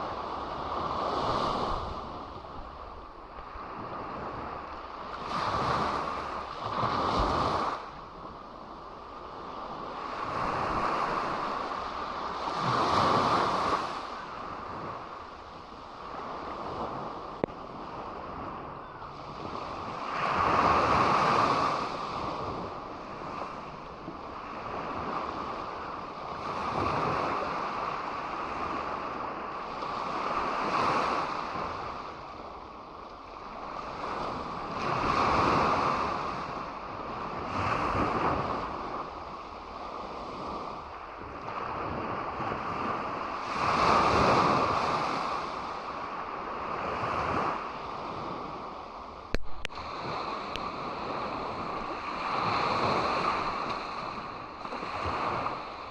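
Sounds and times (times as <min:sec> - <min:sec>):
waves breaking on a beach: 0:00.0 - 0:55.9.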